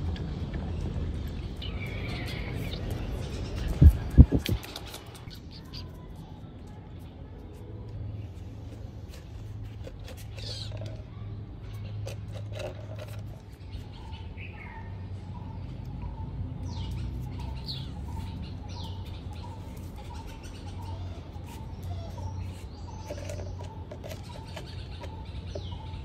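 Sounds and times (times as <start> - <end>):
small birds chirping: 0.1 - 26.0.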